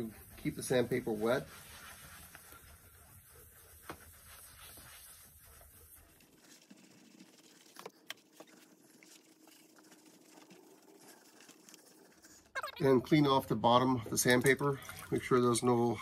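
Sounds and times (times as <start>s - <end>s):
wet sandpaper rubbing: 0.0s - 13.0s.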